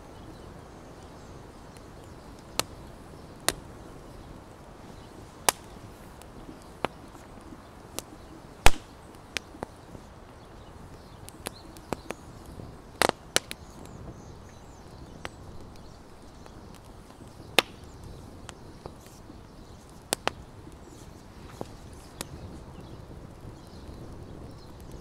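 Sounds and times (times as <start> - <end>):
campfire crackling: 0.0 - 25.0
sharp pops of burning wood: 1.0 - 25.0.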